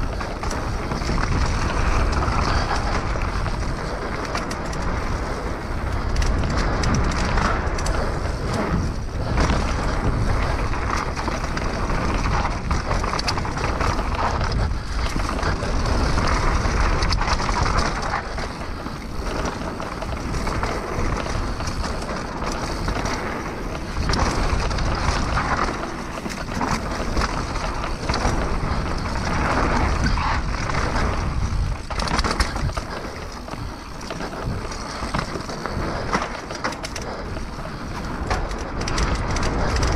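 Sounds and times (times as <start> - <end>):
bike rattling and clicking: 0.0 - 39.9
wind noise on microphone: 0.0 - 39.9.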